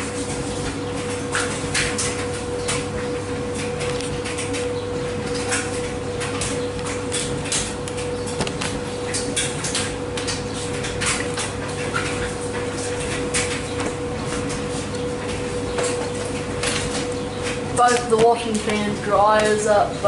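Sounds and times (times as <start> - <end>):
steady machine hum: 0.0 - 20.0
washer drum tumbling wet load: 0.0 - 20.0.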